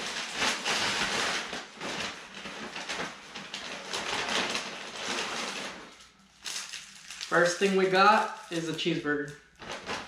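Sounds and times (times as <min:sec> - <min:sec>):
paper bag rustling and crinkling: 0:00.0 - 0:10.0.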